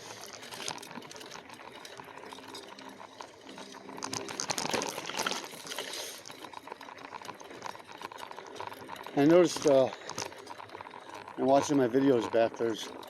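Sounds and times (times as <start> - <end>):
bike rattling on rough trail: 0.0 - 13.0
ice and water sloshing in bottle: 0.0 - 13.0.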